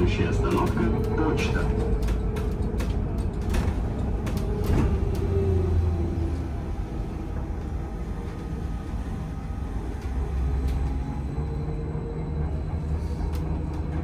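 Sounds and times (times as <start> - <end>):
trolleybus low rumble: 0.0 - 14.0.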